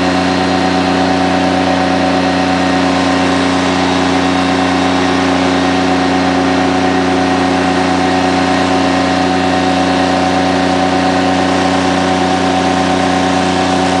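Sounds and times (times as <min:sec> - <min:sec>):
loud steady engine drone: 0:00.0 - 0:14.0.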